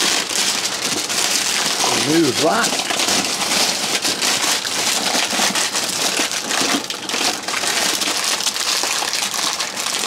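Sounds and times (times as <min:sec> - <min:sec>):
cellophane crinkling: 0:00.0 - 0:10.0.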